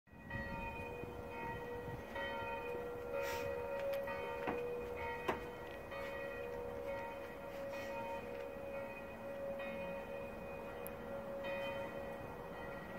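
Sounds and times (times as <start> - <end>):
church bells ringing: 0.1 - 12.9.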